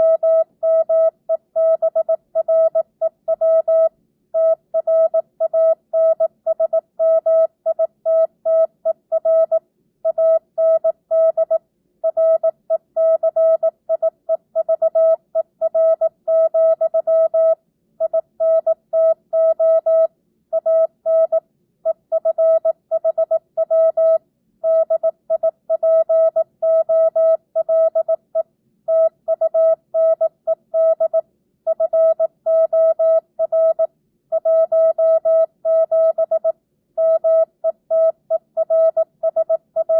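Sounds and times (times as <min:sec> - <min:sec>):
morse code beeps: 0:00.0 - 0:28.2, 0:28.9 - 0:39.9.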